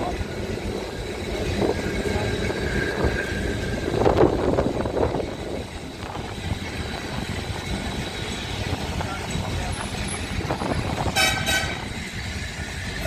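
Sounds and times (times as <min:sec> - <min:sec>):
rushing swell: 0:00.0 - 0:11.1
tram wheels rumbling on rails: 0:00.0 - 0:13.0.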